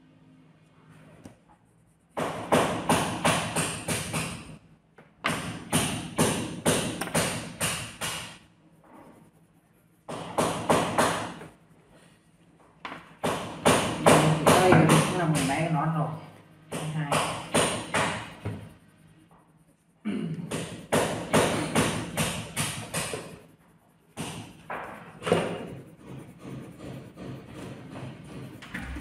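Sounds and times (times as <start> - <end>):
pencil scribbling on paper: 1.2 - 4.6, 5.3 - 12.4, 13.2 - 29.0.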